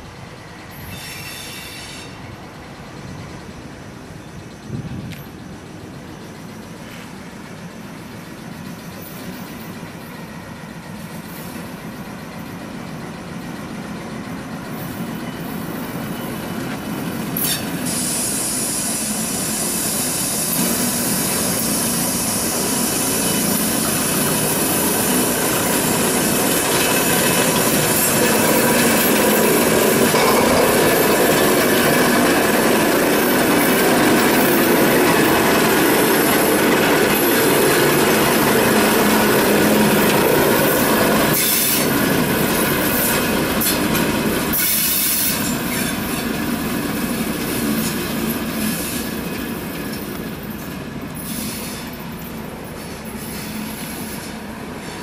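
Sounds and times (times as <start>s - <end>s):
diesel locomotive engine running: 0.0s - 55.0s
wheels hissing on rails: 0.0s - 55.0s.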